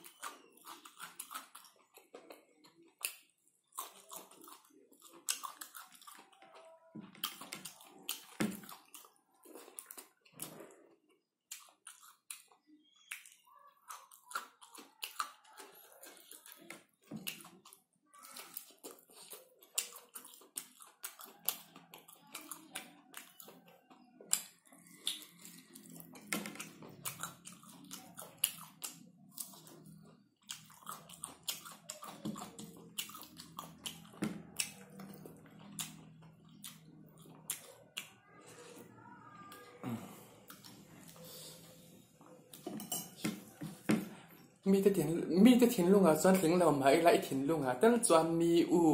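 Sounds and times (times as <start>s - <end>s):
chewing and wet mouth sounds: 0.0s - 47.4s.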